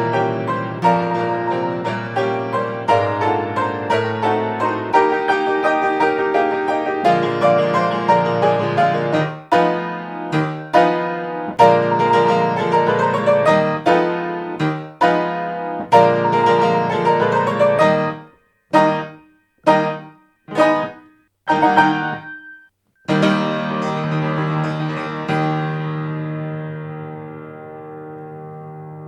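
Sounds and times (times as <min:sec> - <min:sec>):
piano waltz: 0:00.0 - 0:29.0.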